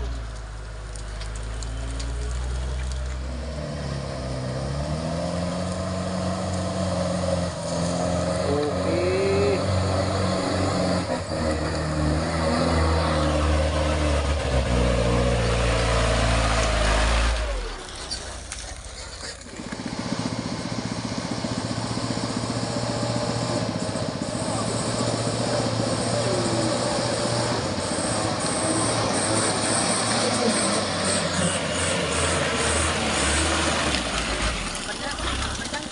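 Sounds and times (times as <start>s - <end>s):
truck diesel engines in mud: 0.0s - 35.9s.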